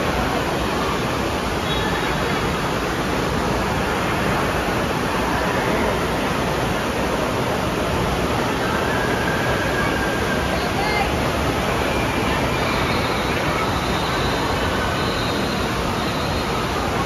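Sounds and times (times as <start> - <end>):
water rushing and churning: 0.0 - 17.0.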